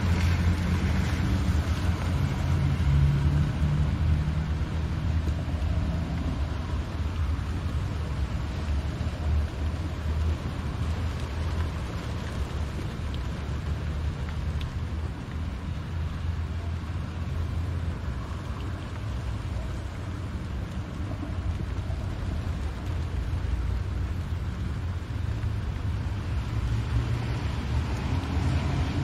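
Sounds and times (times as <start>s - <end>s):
rain hissing on windscreen: 0.0s - 29.0s
raindrop ticks: 0.0s - 29.0s.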